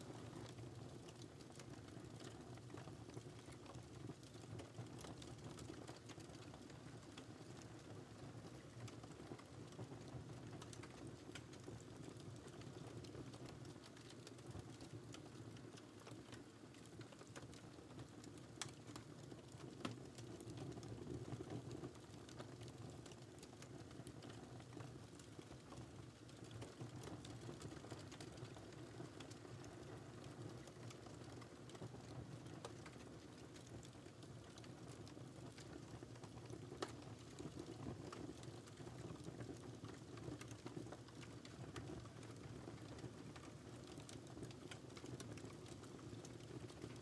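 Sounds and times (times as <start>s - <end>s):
fire crackling and popping: 0.0s - 47.0s
low rumble of burning: 0.0s - 47.0s.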